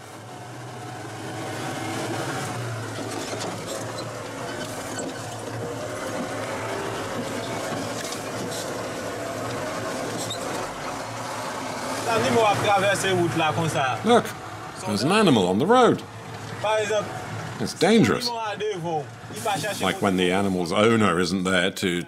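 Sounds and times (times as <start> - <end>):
truck engine running: 0.0 - 21.3.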